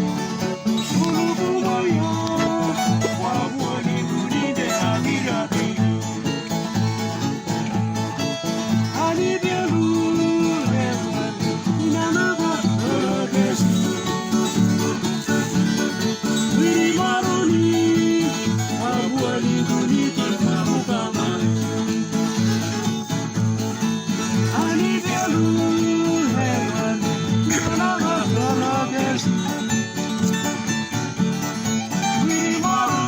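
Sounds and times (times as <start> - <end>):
acoustic guitars strumming: 0.0 - 33.0.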